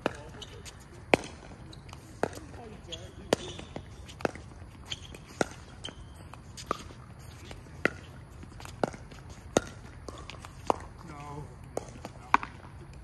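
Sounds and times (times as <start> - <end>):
ball bouncing on hard court: 0.0 - 11.1, 11.7 - 12.7.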